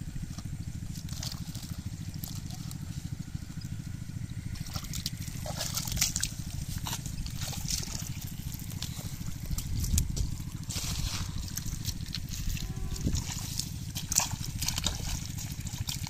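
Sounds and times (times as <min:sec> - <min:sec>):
muddy water sloshing and splashing: 0:00.0 - 0:16.0
steady low hum: 0:00.0 - 0:16.0.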